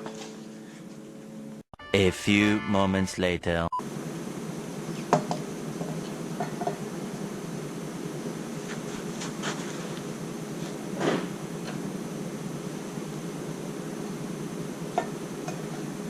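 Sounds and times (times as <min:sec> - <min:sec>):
buzzing hum: 0:01.4 - 0:16.0.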